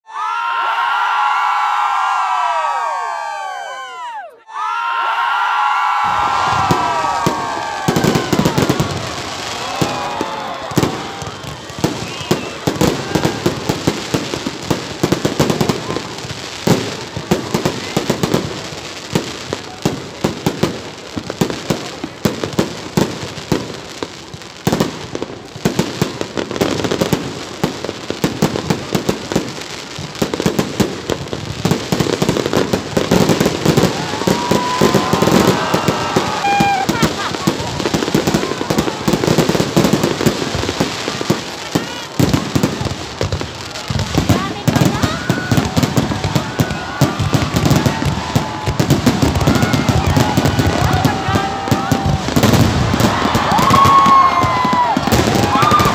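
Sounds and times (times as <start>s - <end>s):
fireworks bangs and crackling: 5.2s - 55.9s.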